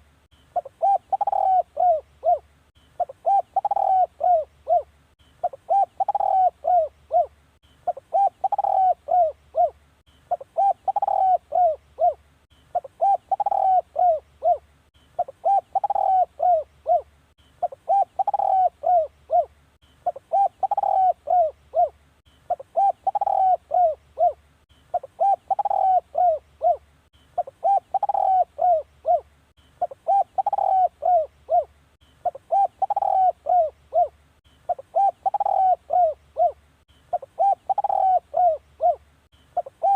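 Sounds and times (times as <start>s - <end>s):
dove cooing: 0.5s - 39.9s.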